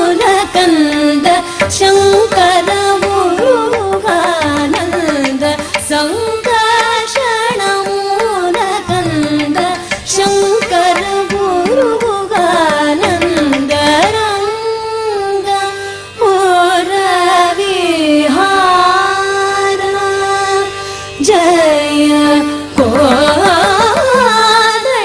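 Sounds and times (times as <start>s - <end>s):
percussion: 0.0s - 25.0s
violin: 0.0s - 25.0s
woman singing ornamented notes: 0.0s - 25.0s.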